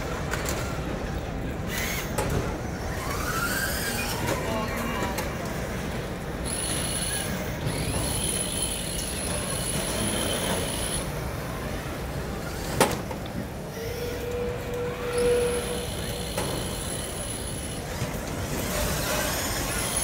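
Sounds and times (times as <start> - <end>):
crowded arena noise: 0.0 - 20.0
robot electric motors whining: 0.2 - 20.0.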